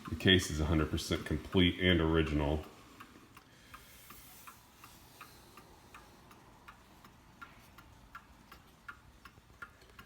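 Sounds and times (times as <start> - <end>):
mantel clock ticking: 0.0 - 10.0.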